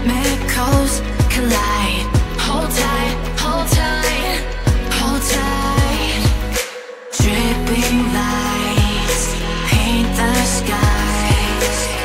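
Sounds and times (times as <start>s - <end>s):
pop song with electronic beat: 0.0s - 12.0s.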